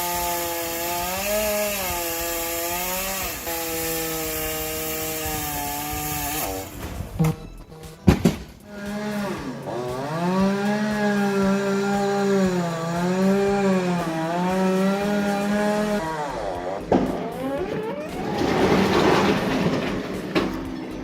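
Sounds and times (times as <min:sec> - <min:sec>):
chainsaw engine revving: 0:00.0 - 0:08.0, 0:08.6 - 0:21.0.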